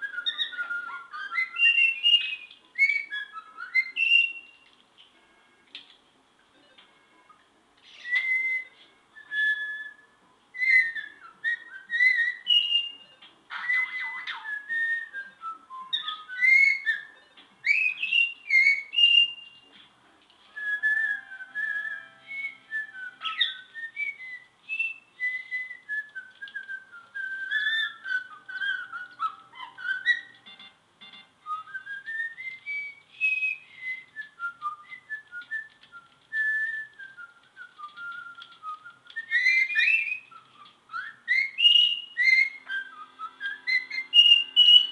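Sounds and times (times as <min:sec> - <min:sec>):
parrot whistling: 0:00.0 - 0:04.6, 0:07.3 - 0:19.7, 0:20.5 - 0:30.4, 0:31.4 - 0:44.9.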